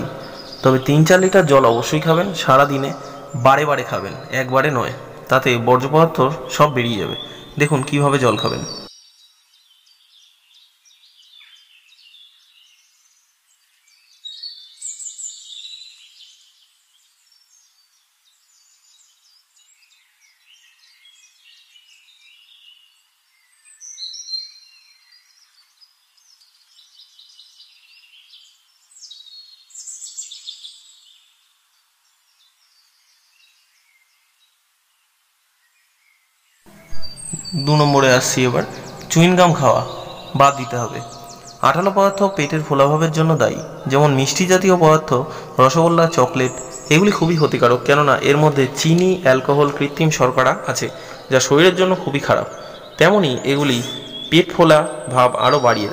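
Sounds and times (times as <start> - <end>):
birds chirping and singing: 0.0 - 34.6, 35.6 - 55.9.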